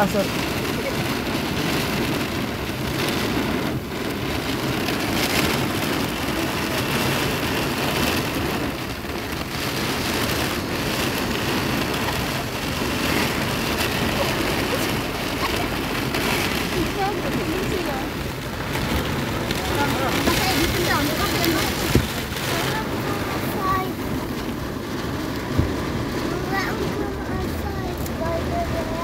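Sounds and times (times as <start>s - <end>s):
heavy rain on window glass: 0.0s - 29.0s.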